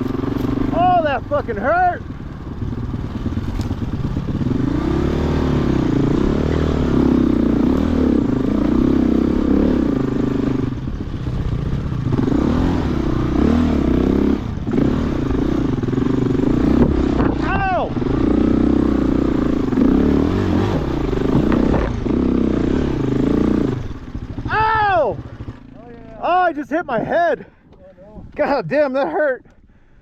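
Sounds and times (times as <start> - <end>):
dirt bike engine revving: 0.0 - 26.4.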